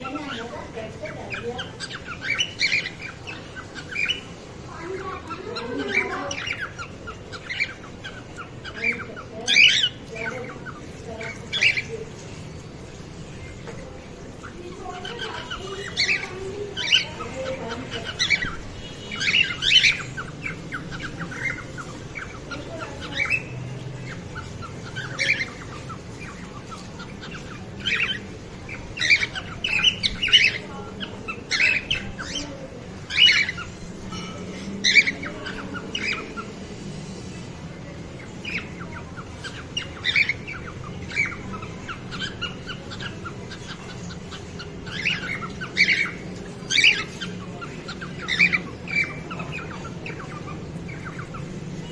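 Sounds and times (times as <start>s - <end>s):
cockatiels chirping and squawking: 0.0s - 51.9s
faint background hum: 0.0s - 51.9s.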